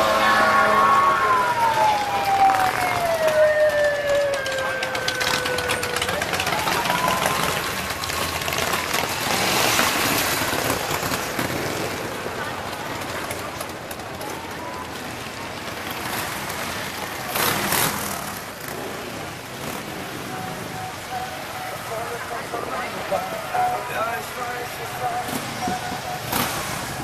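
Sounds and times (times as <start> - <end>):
motorcycles riding past: 0.0 - 27.0.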